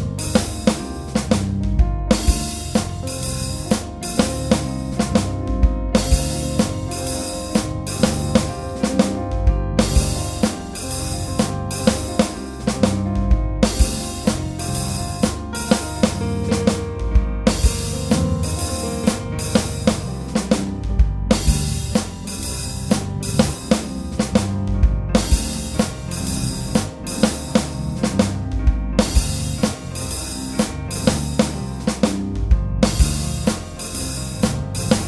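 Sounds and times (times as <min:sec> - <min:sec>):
deep bass hit: 0:00.0 - 0:35.0
drum kit beat: 0:00.0 - 0:35.0.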